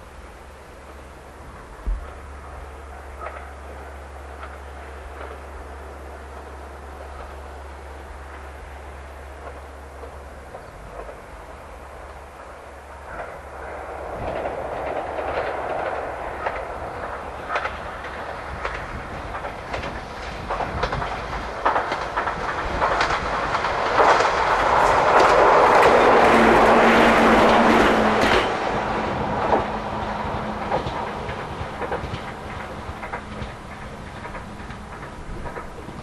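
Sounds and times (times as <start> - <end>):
train hum: 0.0 - 36.0
train wheels clicking over rail joints: 0.8 - 36.0.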